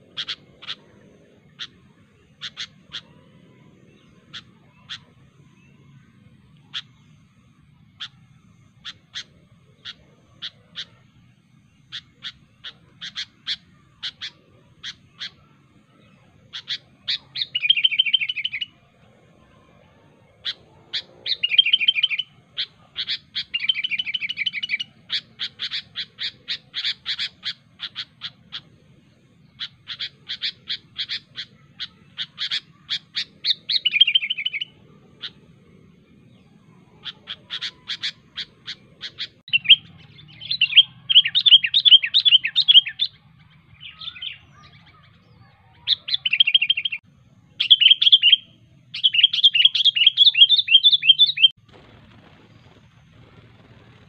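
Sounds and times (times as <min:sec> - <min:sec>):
bird calling sharp notes: 0:00.0 - 0:18.8, 0:20.4 - 0:28.8, 0:29.4 - 0:47.0, 0:47.6 - 0:51.6.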